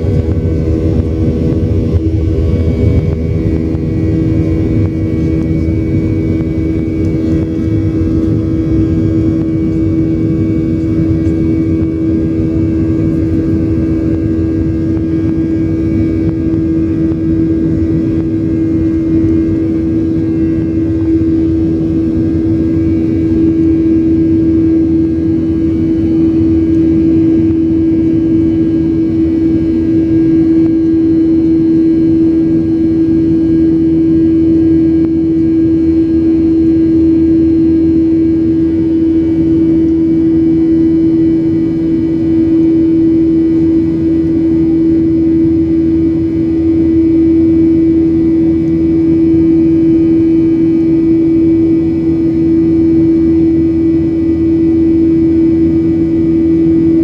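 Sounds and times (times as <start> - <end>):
jet engines from cabin: 0.0 - 57.0.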